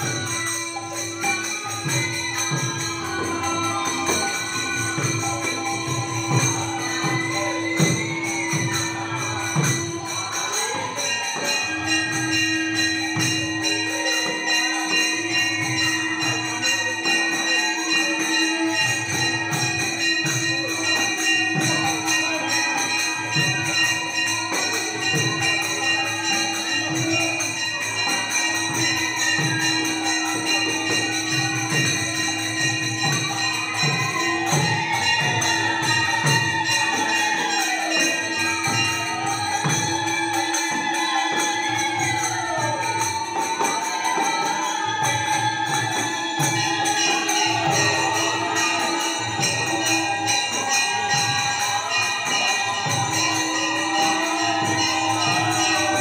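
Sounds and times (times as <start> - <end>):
ringing hand cymbals: 0.0 - 56.0
voices singing: 0.0 - 56.0.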